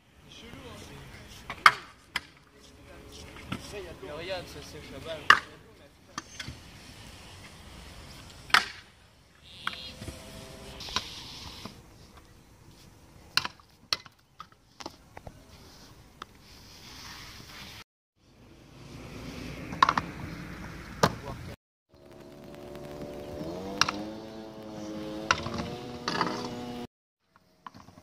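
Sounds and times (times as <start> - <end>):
scooter wheels rolling on concrete: 0.3 - 17.8, 19.1 - 28.0.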